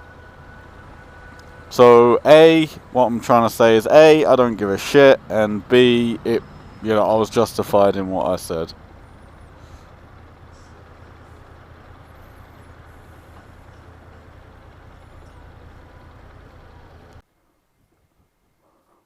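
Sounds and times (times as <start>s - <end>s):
motorcycle engine running: 0.0s - 17.2s.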